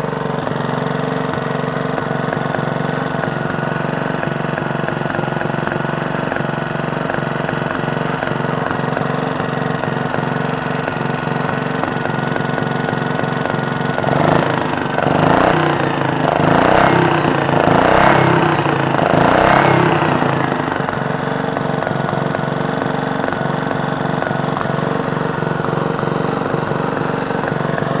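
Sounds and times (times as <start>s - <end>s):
single-cylinder engine running: 0.0s - 28.0s.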